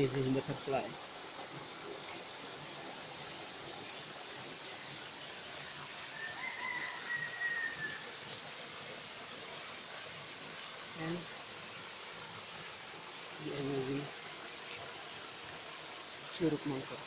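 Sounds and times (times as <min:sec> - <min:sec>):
waterfall splashing into pool: 0:00.0 - 0:17.0.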